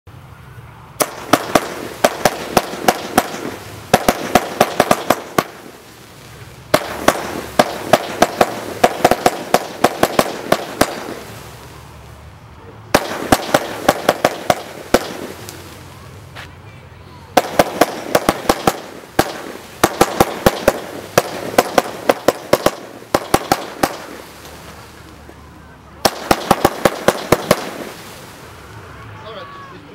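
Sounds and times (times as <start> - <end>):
rushing firework comets: 0.2 - 29.6
firework launch pops: 1.0 - 11.7, 12.9 - 15.8, 17.4 - 25.4, 26.0 - 28.8.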